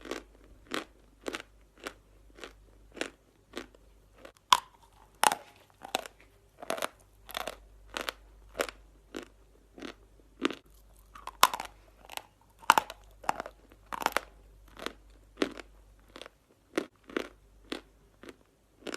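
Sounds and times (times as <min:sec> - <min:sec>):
chalk being chewed: 0:00.7 - 0:18.9.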